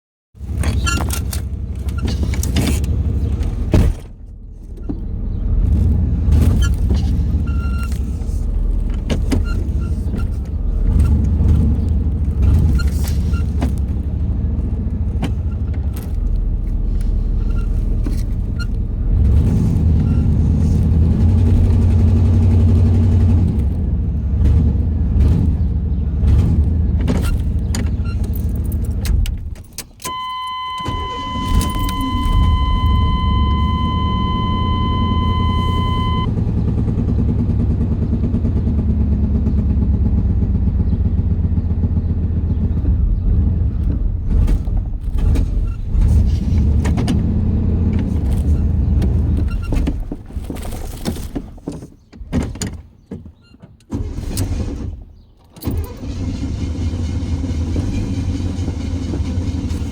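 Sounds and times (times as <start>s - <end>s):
car engine hard start: 0.4s - 53.1s, 53.8s - 59.9s.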